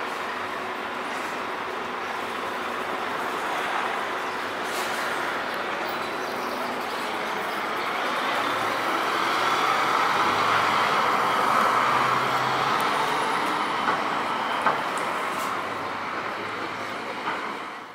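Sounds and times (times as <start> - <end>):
bus pulling away: 0.0 - 17.9.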